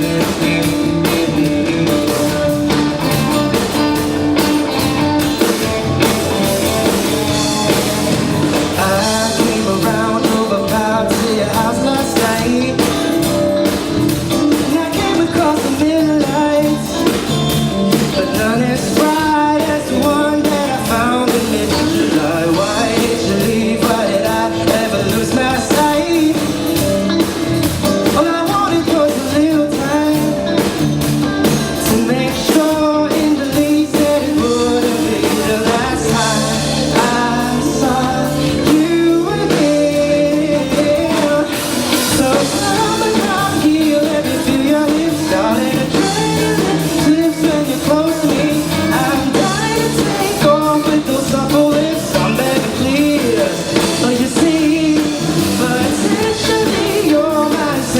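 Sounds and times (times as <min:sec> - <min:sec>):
live band playing pop-rock: 0:00.0 - 0:57.9
person singing: 0:00.0 - 0:57.9.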